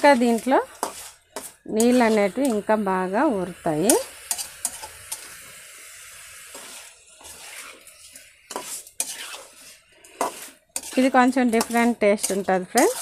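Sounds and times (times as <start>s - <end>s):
food sizzling in metal pan: 0.0s - 13.0s
spatula scraping pan: 0.0s - 13.0s.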